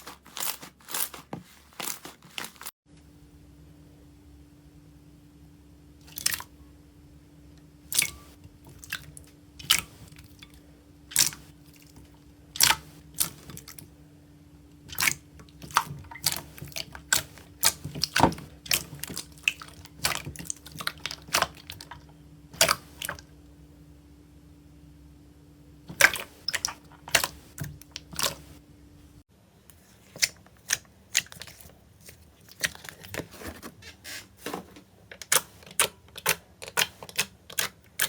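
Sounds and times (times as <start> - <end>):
faint steady hum: 2.9 - 38.0.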